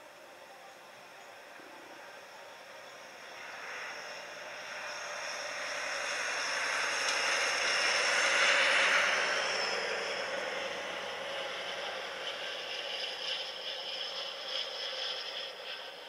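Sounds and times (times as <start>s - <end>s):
snowplow train ploughing through snow: 0.0s - 16.0s.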